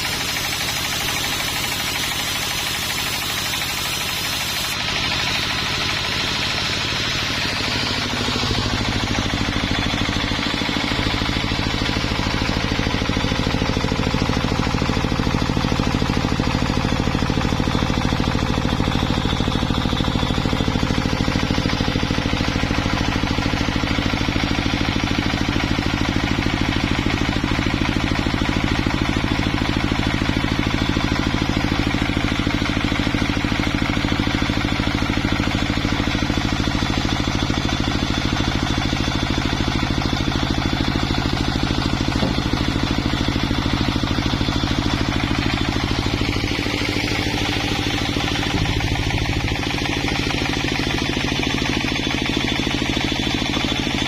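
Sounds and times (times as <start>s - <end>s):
sawmill machinery running: 0.0s - 54.0s.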